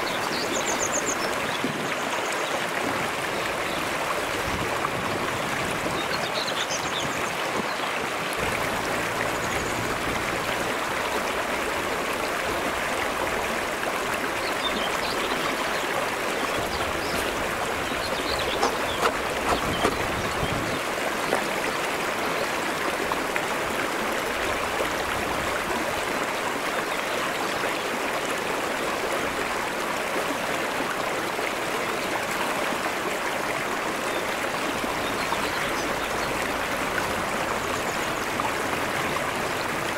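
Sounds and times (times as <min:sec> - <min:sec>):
stream flowing over stone: 0:00.0 - 0:39.9.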